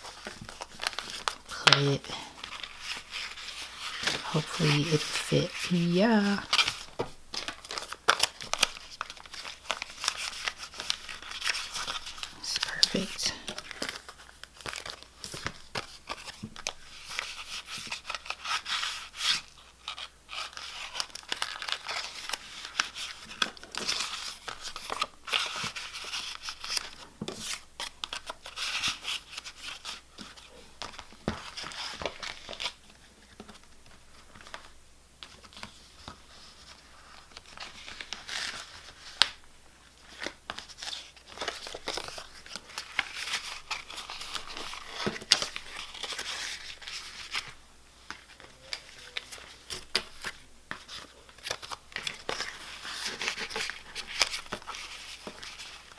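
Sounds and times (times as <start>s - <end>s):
paper rustling and crinkling: 0.0s - 55.9s.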